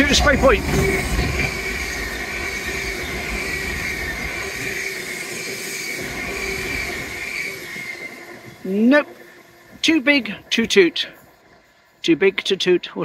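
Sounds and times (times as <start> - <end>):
high whine: 0.0 - 12.7
train rumbling past: 0.0 - 13.0.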